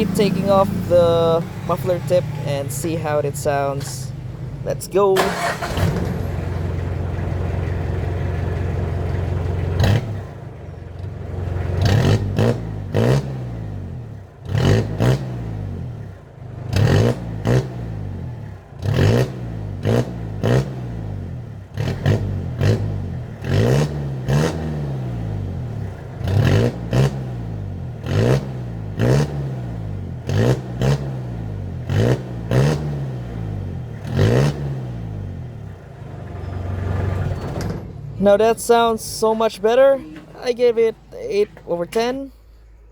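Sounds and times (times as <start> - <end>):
pickup engine idling and revving: 0.0 - 42.9.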